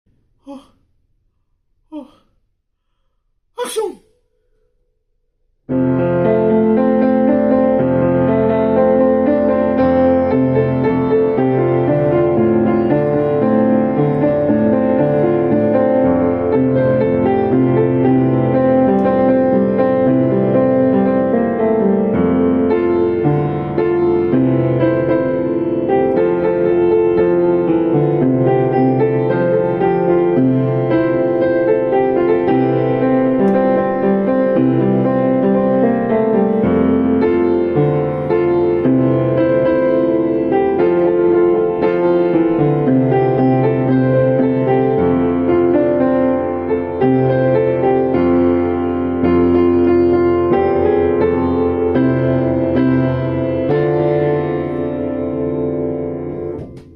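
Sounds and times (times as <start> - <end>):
piano playing a tune: 5.7 - 56.9.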